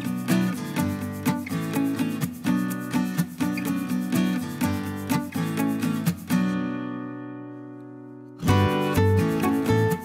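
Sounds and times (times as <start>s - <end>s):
acoustic guitar plucked: 0.0s - 10.0s.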